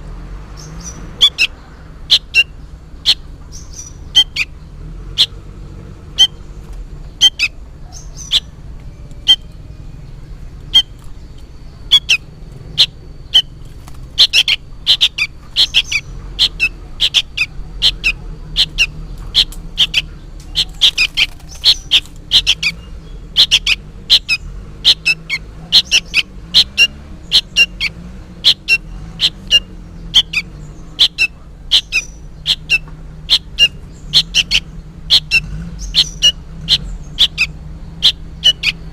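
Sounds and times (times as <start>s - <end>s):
bird chirping calls: 0.4s - 38.9s.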